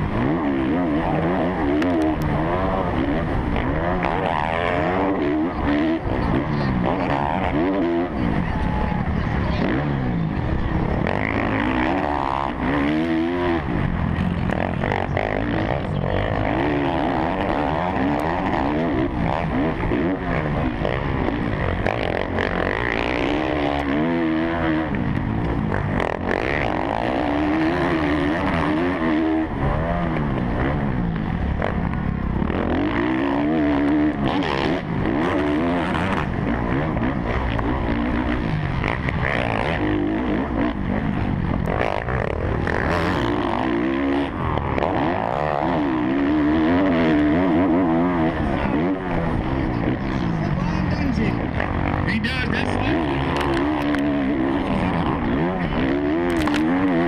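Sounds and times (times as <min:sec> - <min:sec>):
motocross engine revving: 0:00.0 - 0:57.0.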